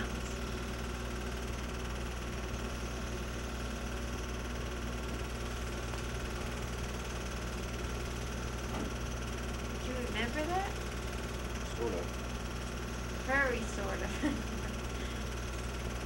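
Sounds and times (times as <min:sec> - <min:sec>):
film projector running: 0:00.0 - 0:16.0.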